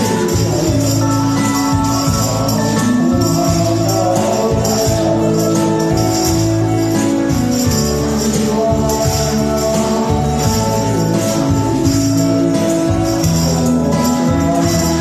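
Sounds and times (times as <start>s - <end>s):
jingling tambourine percussion: 0.0s - 15.0s
karaoke backing music: 0.0s - 15.0s
man singing into microphone: 0.0s - 15.0s.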